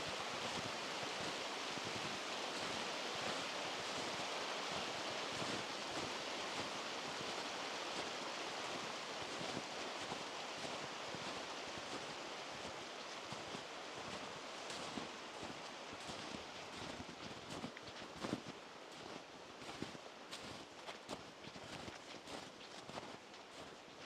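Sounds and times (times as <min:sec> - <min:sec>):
mountain stream rushing: 0:00.0 - 0:24.0.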